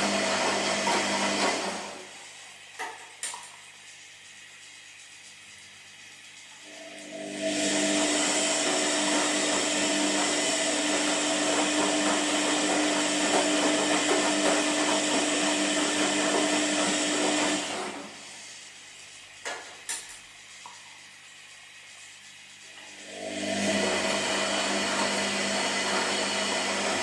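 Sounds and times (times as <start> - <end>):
washing machine motor whirring: 0.0 - 27.0.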